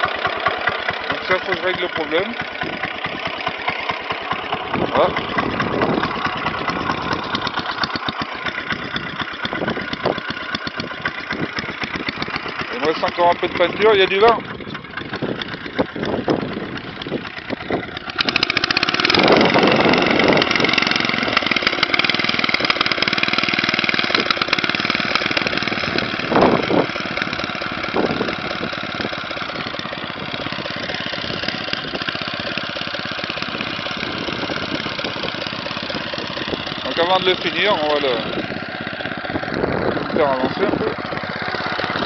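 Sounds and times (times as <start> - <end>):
single-cylinder engine running: 0.0 - 42.0.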